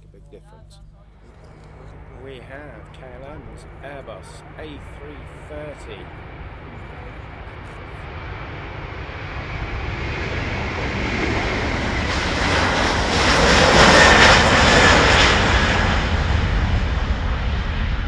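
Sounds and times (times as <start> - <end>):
jet airliner taking off: 1.2 - 18.0.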